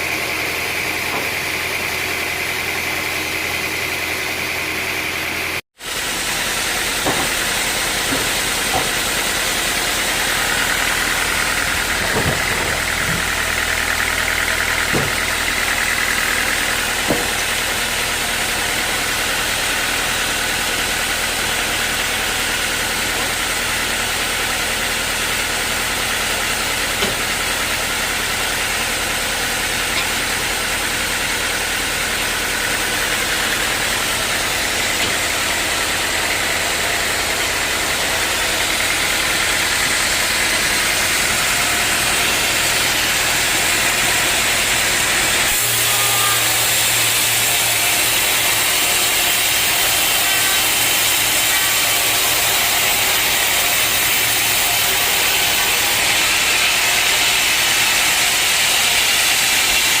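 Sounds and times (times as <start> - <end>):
sawmill machinery running: 0.0 - 60.0.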